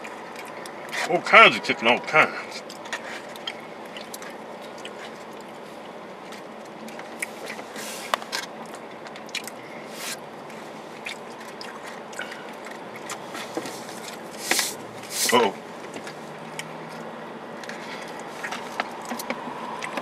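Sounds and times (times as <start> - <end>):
chewing: 0.0 - 1.3, 2.3 - 20.0.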